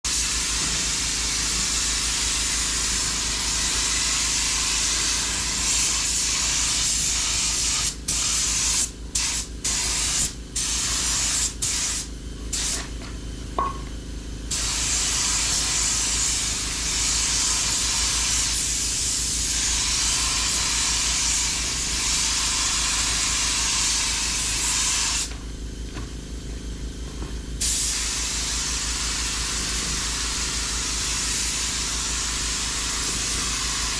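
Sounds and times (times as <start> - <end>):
paint spray gun hissing: 0.1 - 12.9, 14.5 - 25.3, 27.6 - 33.9.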